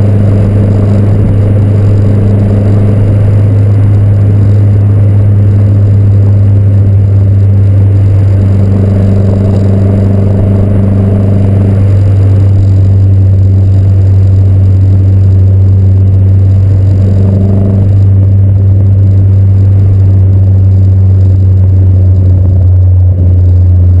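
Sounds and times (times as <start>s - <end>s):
car engine low drone: 0.0s - 24.0s
higher engine tone: 0.0s - 24.0s.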